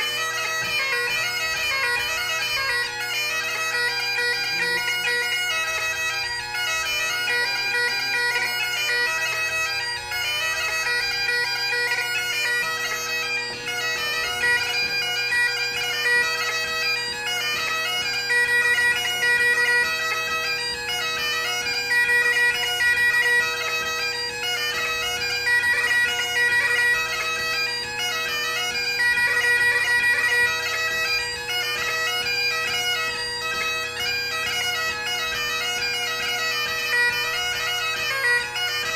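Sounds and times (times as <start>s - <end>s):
bagpipe chanter melody: 0.0s - 38.9s
bagpipe drones: 0.0s - 38.9s.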